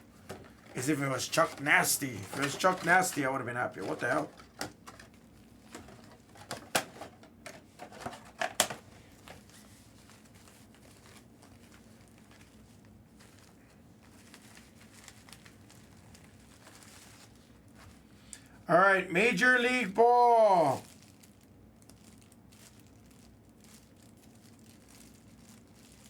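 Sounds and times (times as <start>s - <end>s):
packaging crinkling: 0.0s - 7.1s, 7.7s - 18.1s, 20.6s - 26.0s.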